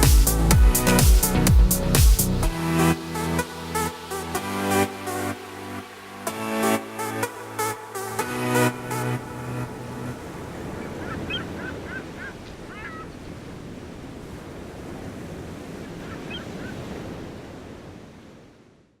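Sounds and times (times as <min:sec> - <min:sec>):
surf washing: 0:00.0 - 0:18.8.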